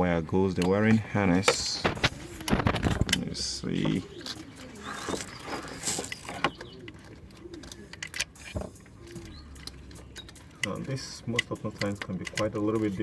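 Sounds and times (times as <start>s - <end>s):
hands handling wiring: 0.5s - 13.0s
dove cooing: 1.8s - 13.0s.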